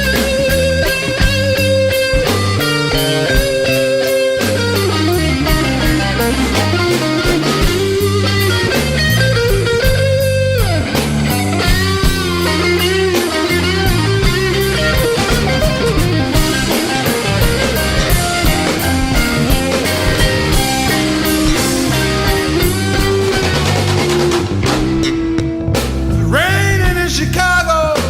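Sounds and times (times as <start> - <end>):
lead electric guitar bending notes: 0.0 - 27.3
bass guitar: 0.0 - 28.0
steady drum beat: 0.0 - 28.0.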